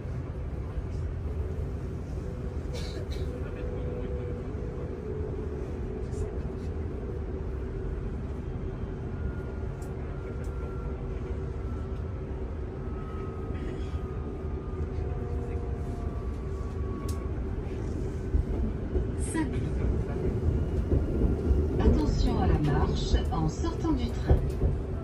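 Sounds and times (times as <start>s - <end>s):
train hum: 0.0s - 25.0s
train low rumble: 0.0s - 25.0s.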